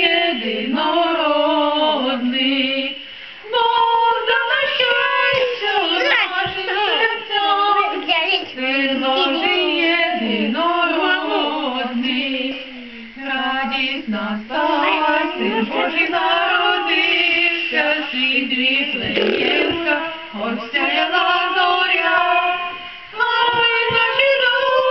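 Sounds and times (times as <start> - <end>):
woman and boys singing carol: 0.0 - 24.9.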